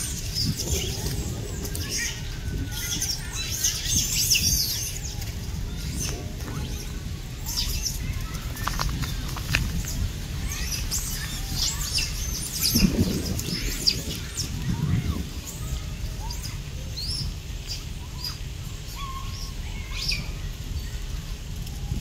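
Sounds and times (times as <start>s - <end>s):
animals chirping and squeaking: 0.0s - 22.0s
steady low rumble: 0.0s - 22.0s.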